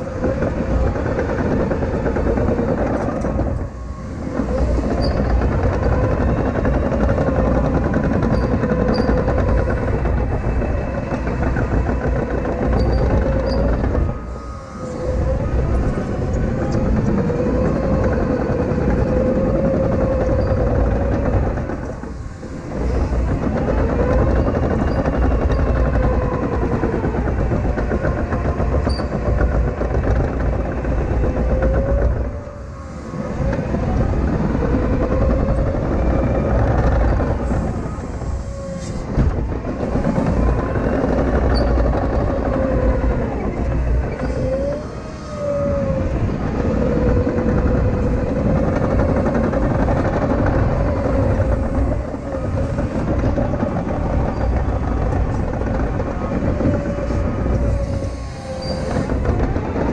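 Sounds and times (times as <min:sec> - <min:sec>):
diesel engine running: 0:00.0 - 0:59.9
wavering whine: 0:00.0 - 0:59.9.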